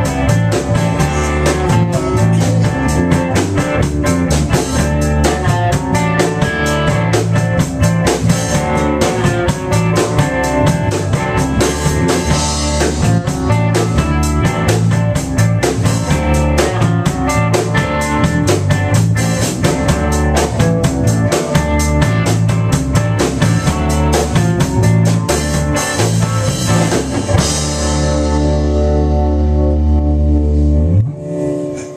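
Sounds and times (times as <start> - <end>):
blues band playing: 0.0 - 31.9
drum kit beating: 0.0 - 31.9.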